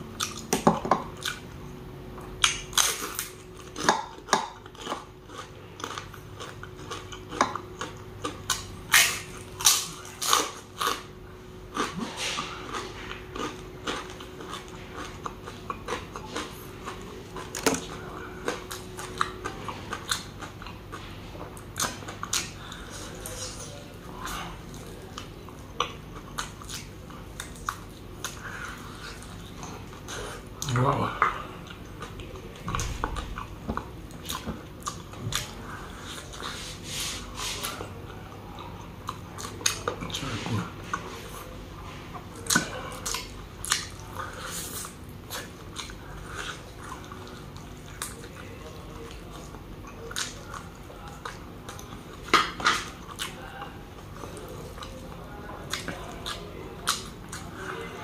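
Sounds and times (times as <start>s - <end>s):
person chewing: 0.1s - 58.0s.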